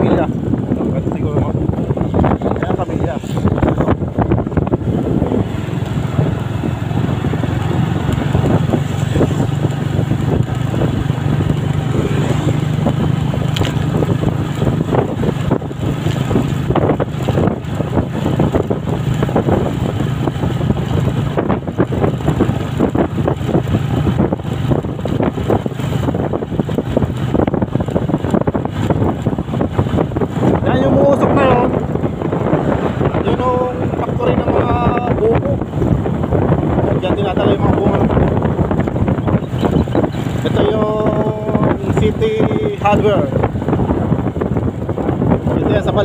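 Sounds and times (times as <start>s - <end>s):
motorcycle engine running: 0.0s - 46.0s
wind buffeting microphone: 0.0s - 46.0s.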